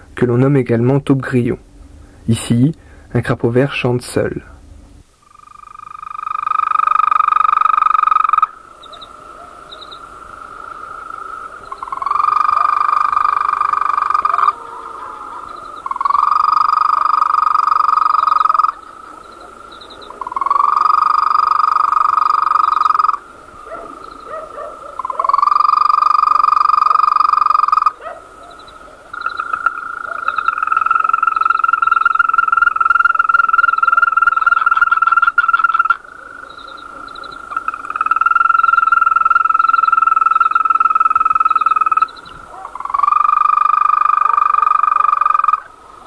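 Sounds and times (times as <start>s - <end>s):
toad trilling: 5.2s - 45.8s.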